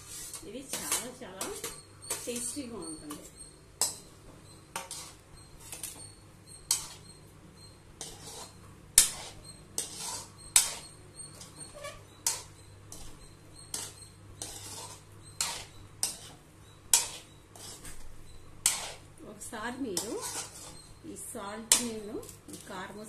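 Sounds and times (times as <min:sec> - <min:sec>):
metal spoon scraping metal pan: 0:00.0 - 0:04.1, 0:04.7 - 0:07.2, 0:08.0 - 0:18.0, 0:18.6 - 0:22.7.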